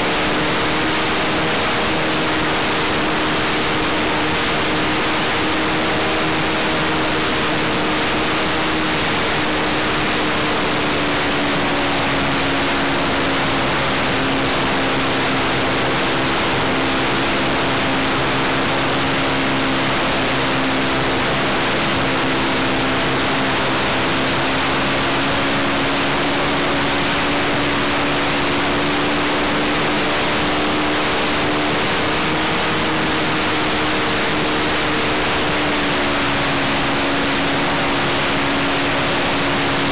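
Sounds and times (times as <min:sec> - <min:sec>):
model plane engine running: 0:00.0 - 0:39.9.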